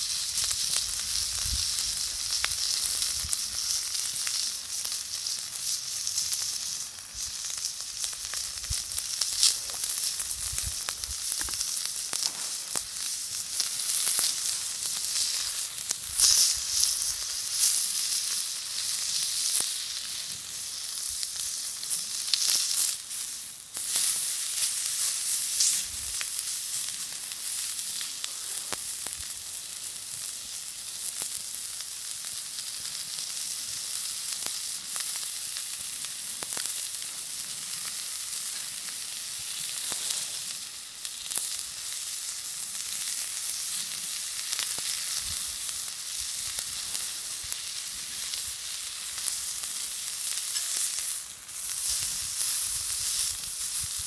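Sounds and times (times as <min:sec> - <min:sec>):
small pops and crackles: 0:00.0 - 0:29.6, 0:32.2 - 0:54.0
meat sizzling on a griddle: 0:00.0 - 0:54.0.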